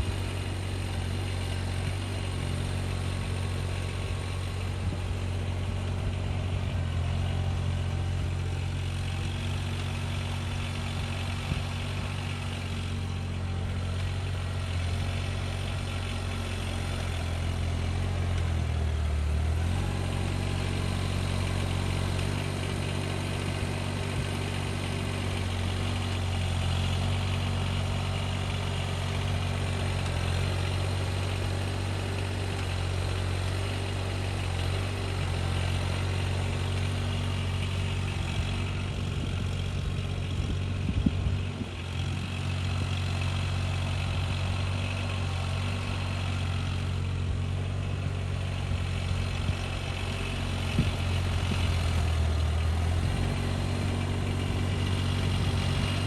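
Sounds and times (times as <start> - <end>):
engine knock: 0.0 - 56.0
engine running steadily: 0.0 - 56.0.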